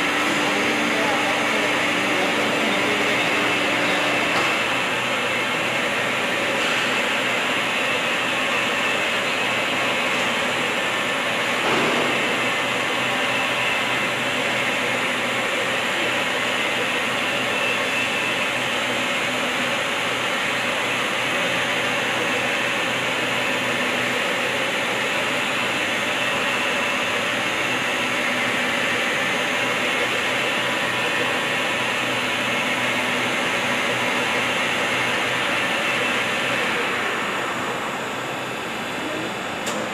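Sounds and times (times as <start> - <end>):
lathe machinery running: 0.0 - 39.9.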